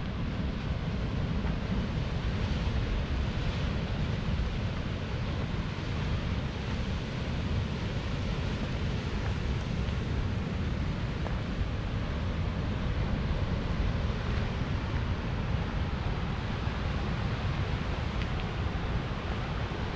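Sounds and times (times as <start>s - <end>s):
ocean surf on rocky shore: 0.1s - 19.9s.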